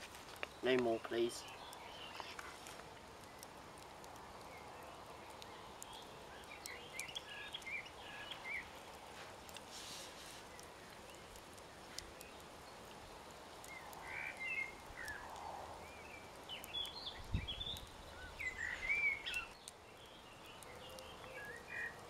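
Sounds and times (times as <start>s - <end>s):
faint outdoor hiss: 0.0s - 22.0s
songbirds chirping: 0.0s - 22.0s.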